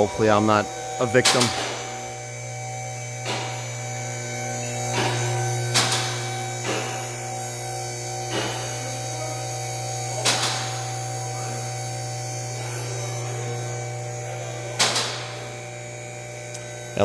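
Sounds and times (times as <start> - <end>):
higher steady tones: 0.0 - 17.0
steady low hum: 0.0 - 17.0.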